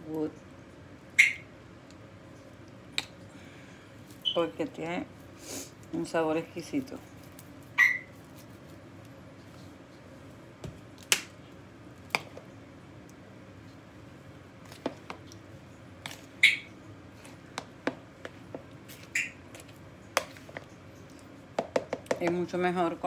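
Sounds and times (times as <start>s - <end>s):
faint steady background noise: 0.0s - 23.0s.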